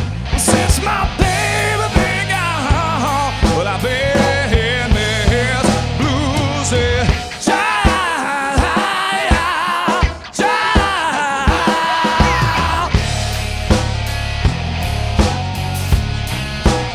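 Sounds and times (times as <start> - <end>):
blues-rock band playing: 0.0 - 16.9
wavering lead guitar melody: 0.0 - 16.9.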